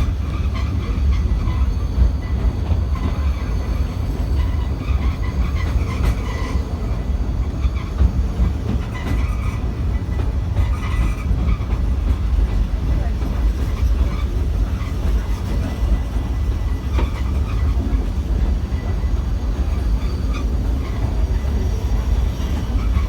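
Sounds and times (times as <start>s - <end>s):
tramcar rumbling on rails: 0.0s - 23.0s.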